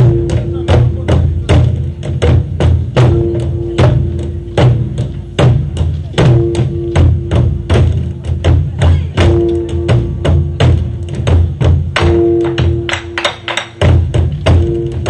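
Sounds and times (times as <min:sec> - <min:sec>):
barrel drums ensemble: 0:00.0 - 0:15.0.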